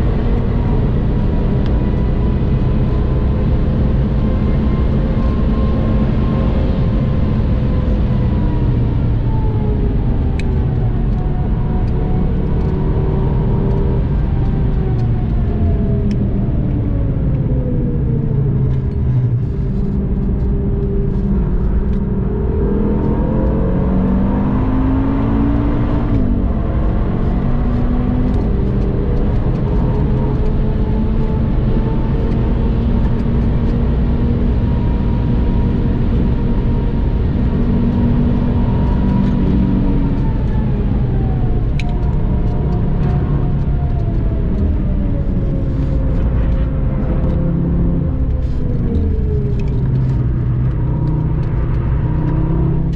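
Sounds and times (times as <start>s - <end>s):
car engine revving: 0.0s - 52.9s
road and wind noise: 0.0s - 52.9s.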